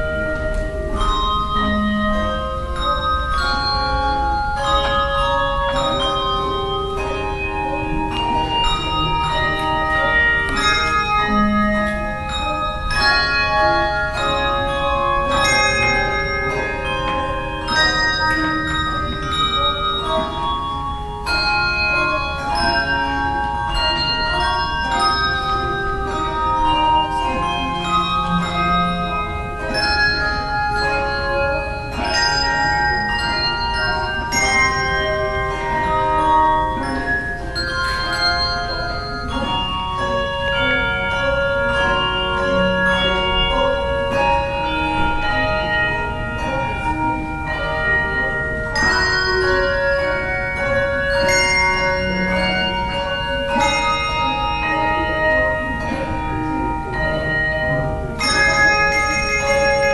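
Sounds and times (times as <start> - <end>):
deep bass bells: 0.0 - 59.9
handbell choir playing: 0.0 - 59.9.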